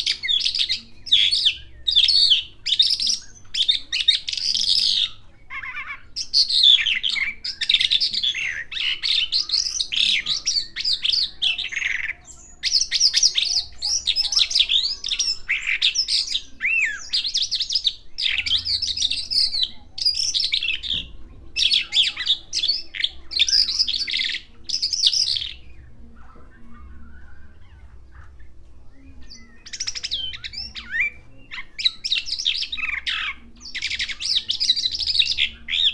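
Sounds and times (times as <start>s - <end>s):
bird singing chirps and trills: 0.0s - 35.9s.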